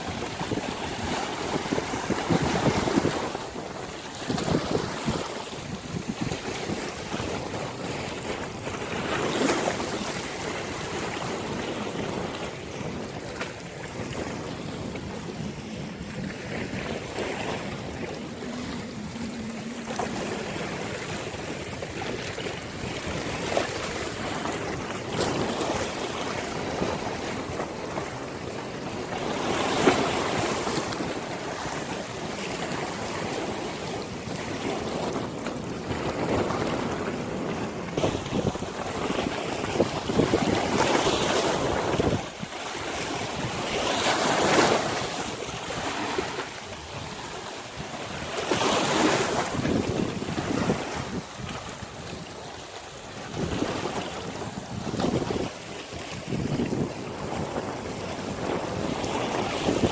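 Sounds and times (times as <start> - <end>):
sea waves washing onto beach: 0.0 - 59.9
wind buffeting microphone: 0.0 - 59.9.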